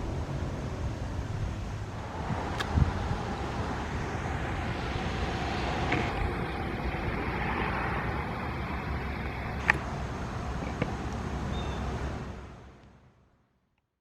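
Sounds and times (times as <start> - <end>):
low rumble: 0.0 - 12.9
rain: 0.0 - 12.9
traffic on wet roads: 0.0 - 13.2.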